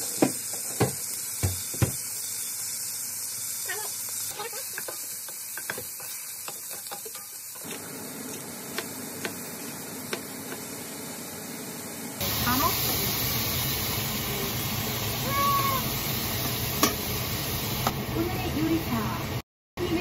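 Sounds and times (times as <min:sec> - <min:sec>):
pork sizzling in a pot: 0:00.0 - 0:20.0.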